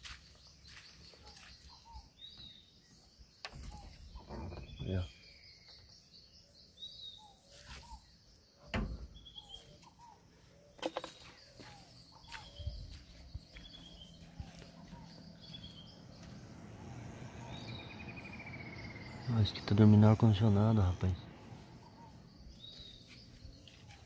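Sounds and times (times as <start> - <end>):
birds chirping and trilling: 0.0 - 24.0.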